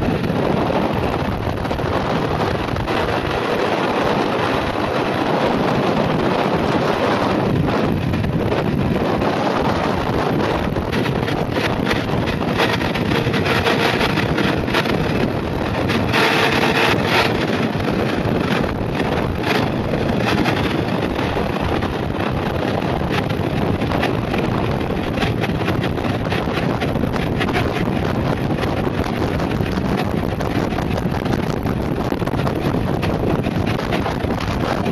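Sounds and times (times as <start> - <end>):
wind rushing over microphone: 0.0 - 34.9
tyres rolling fast on asphalt: 6.4 - 34.9.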